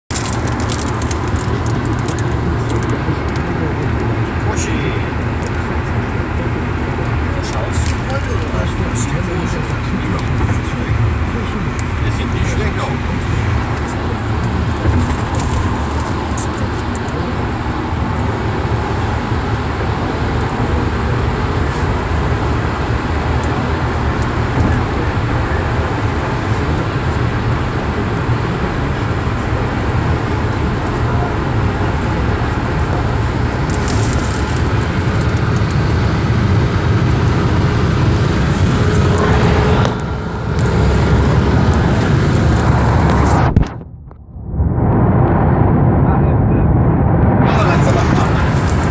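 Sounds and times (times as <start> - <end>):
car road and wind noise: 0.0 - 48.9.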